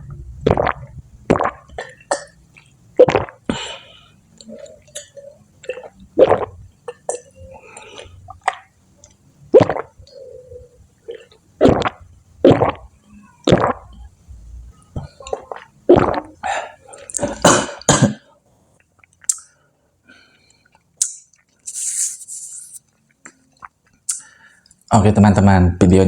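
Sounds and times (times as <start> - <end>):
eating and swallowing sounds: 0.0 - 19.6, 20.4 - 21.8, 22.8 - 24.8.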